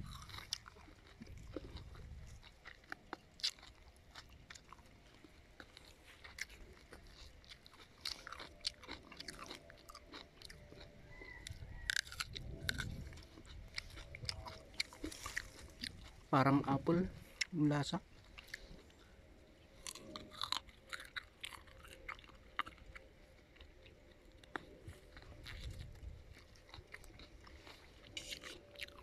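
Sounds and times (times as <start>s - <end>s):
person chewing crisp fruit: 0.0s - 29.0s.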